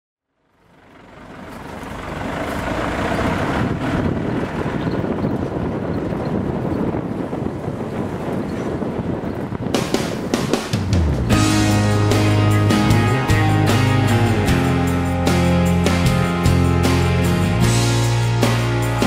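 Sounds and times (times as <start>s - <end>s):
vehicle engine and road rumble: 0.2s - 19.0s.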